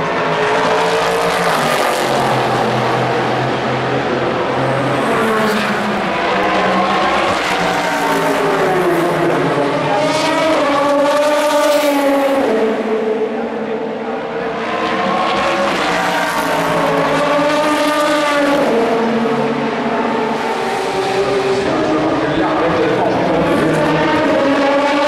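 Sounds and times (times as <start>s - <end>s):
race car engines at full throttle: 0.0s - 25.0s.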